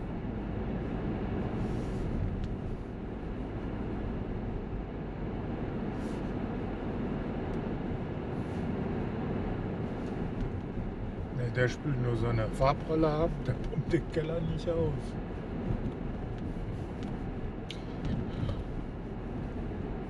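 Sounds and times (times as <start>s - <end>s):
car tyres and engine rumbling: 0.0s - 20.0s.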